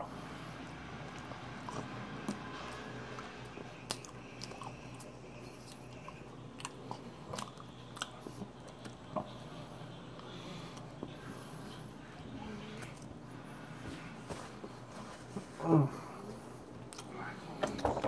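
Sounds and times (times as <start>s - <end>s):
chewing flaky pastry: 0.0s - 18.0s.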